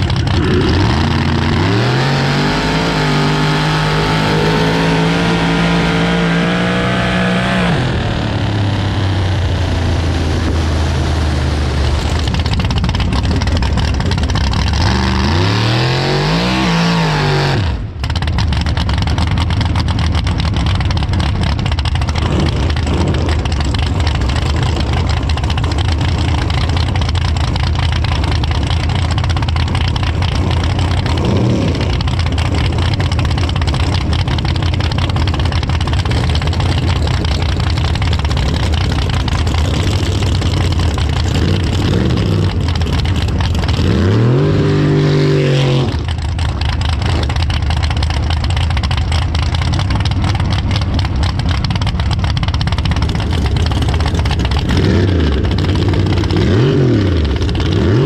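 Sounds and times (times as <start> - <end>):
engine revving: 0.0 - 51.0, 52.1 - 58.0
car engine idling loudly: 0.0 - 58.0.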